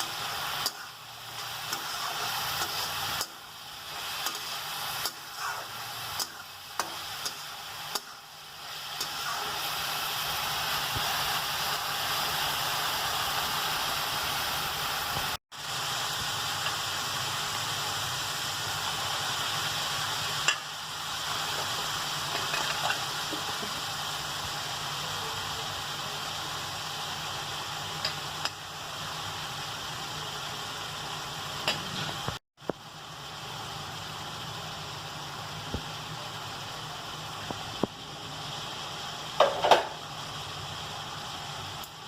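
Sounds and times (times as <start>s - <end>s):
food sizzling in a pan: 0.0s - 42.0s.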